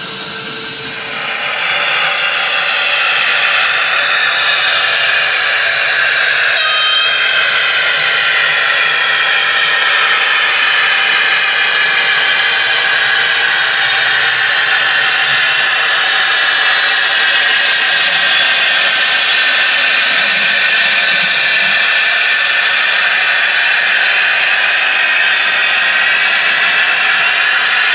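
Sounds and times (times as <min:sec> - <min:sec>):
model train diesel engine drone: 0:00.0 - 0:27.9.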